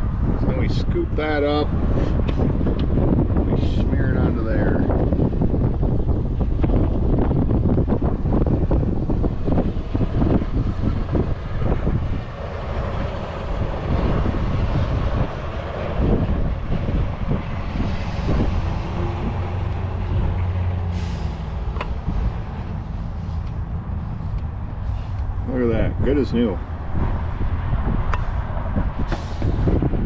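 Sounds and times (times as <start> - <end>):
vehicle engines rumbling: 0.0 - 30.0
wind buffeting microphone: 0.0 - 30.0.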